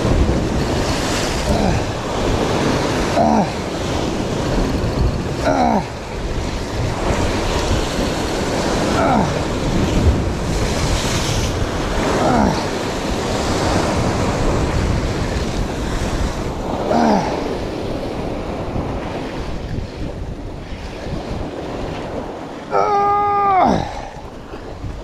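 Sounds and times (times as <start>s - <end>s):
surf breaking against rocks: 0.0s - 20.4s
wind buffeting microphone: 0.0s - 25.0s.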